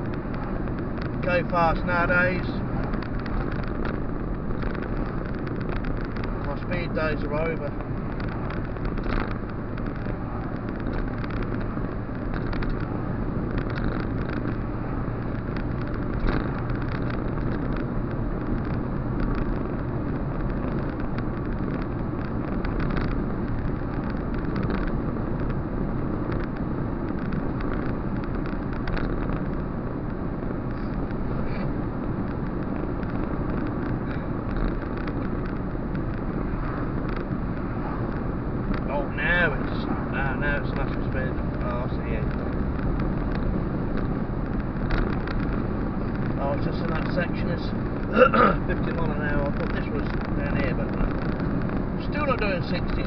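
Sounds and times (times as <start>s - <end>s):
car cabin road noise: 0.0s - 53.0s.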